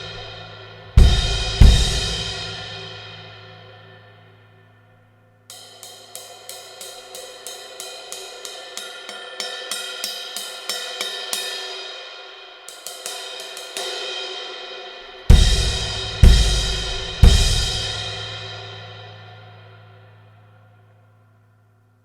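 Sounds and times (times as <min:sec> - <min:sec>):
cymbals struck with a stick: 0:00.0 - 0:04.8, 0:05.5 - 0:20.9.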